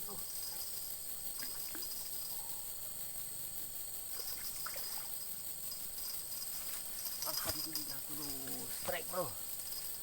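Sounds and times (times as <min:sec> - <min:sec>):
faint water sounds: 0:00.0 - 0:02.9, 0:04.0 - 0:09.5
insect drone: 0:00.0 - 0:10.0.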